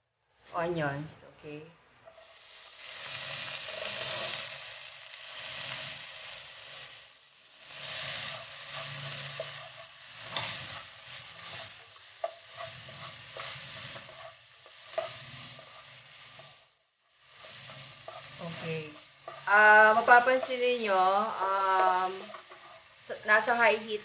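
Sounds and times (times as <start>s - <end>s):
onions sizzling in hot oil: 1.5s - 24.0s.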